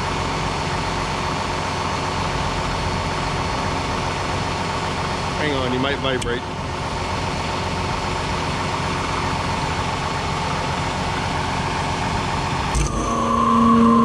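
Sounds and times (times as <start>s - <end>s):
tractor engine running: 0.0s - 13.4s
steady whine: 0.0s - 14.0s.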